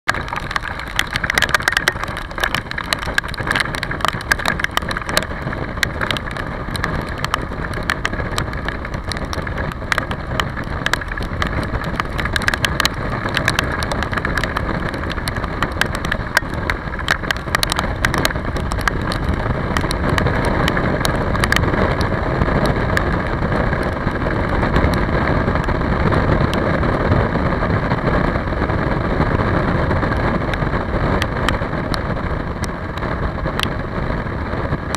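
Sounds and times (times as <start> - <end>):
raindrops ticking on camera: 0.0 - 34.9
wet tyre road noise: 0.0 - 34.9
wind noise: 0.0 - 34.9.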